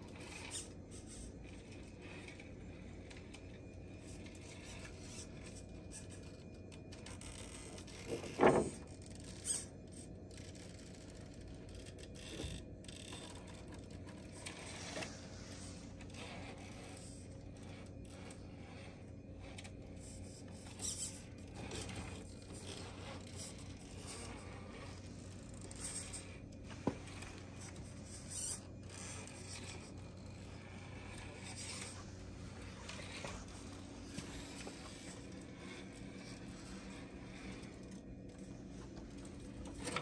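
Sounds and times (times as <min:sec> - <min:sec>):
small electric motor running: 0:00.0 - 0:40.0.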